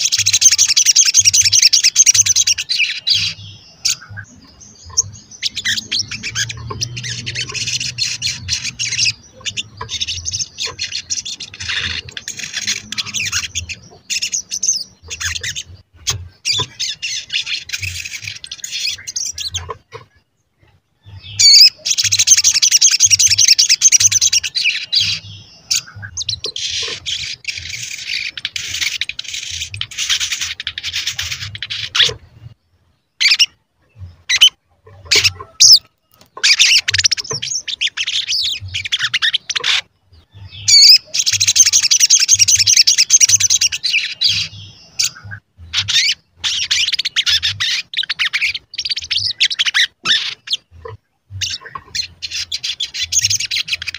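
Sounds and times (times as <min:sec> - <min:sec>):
sunbird high-pitched chittering song: 0:00.0 - 0:50.8, 0:51.4 - 0:53.9.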